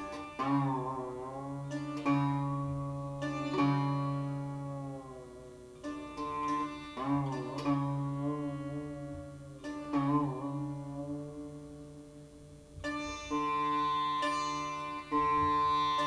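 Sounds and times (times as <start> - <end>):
sitar plucked phrases: 0.0 - 16.0.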